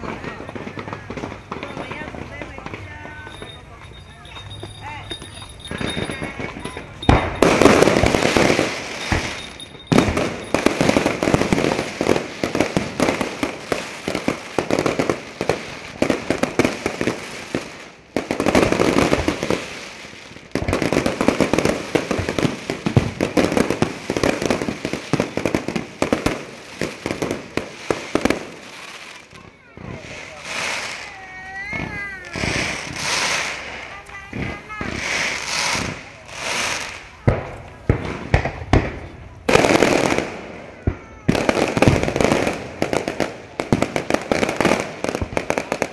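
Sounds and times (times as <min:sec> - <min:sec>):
fireworks bursting and crackling: 0:00.0 - 0:45.9.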